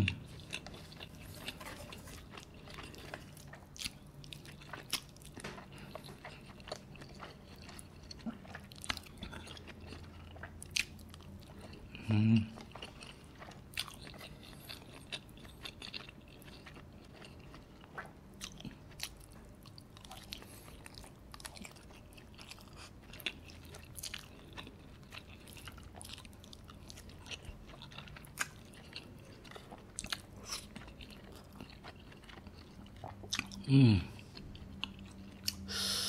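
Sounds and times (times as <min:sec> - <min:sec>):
chewing soft food: 0:00.0 - 0:36.0.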